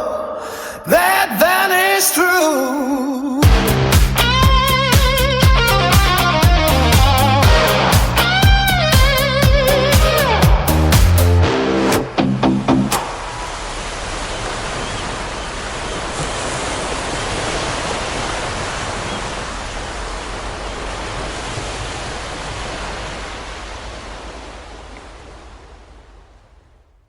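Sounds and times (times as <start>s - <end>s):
ocean surf: 3.4s - 26.4s.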